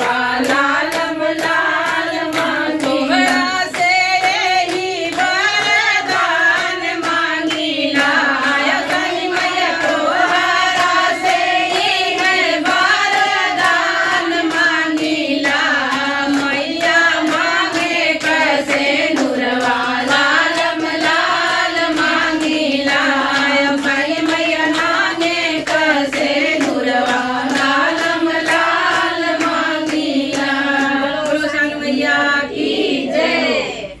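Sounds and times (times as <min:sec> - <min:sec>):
hand claps: 0:00.0 - 0:32.3
women singing in unison: 0:00.0 - 0:34.0.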